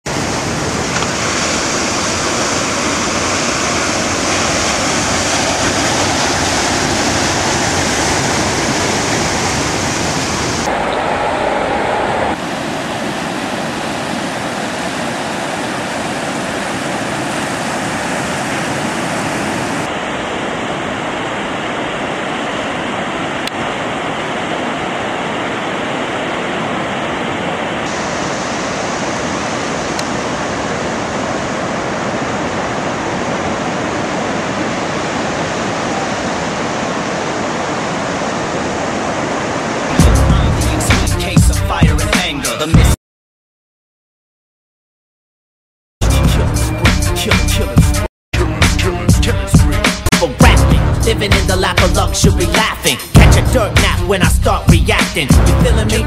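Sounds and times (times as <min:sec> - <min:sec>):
sea surf rushing: 0:00.0 - 0:42.9, 0:48.9 - 0:56.0.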